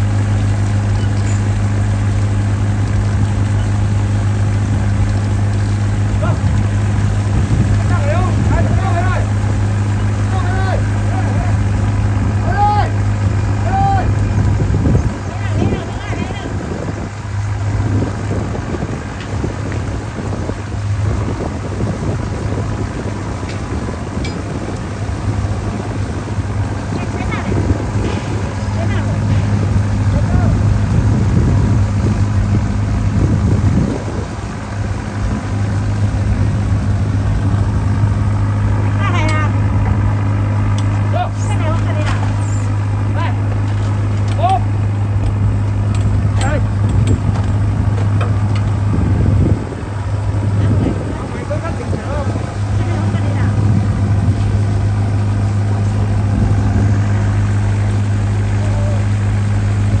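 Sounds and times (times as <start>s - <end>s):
engine idling: 0.0s - 60.0s.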